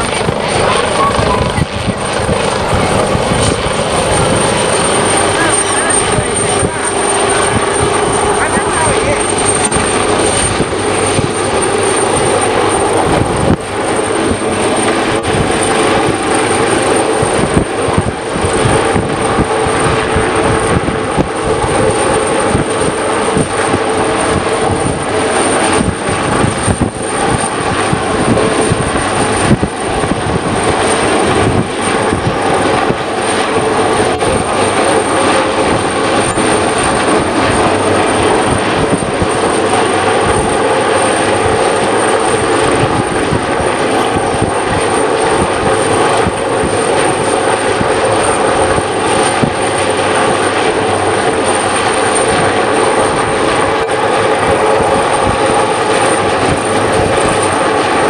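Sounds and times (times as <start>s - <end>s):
helicopter rotor and engines: 0.0s - 58.0s
high whine: 0.0s - 58.0s.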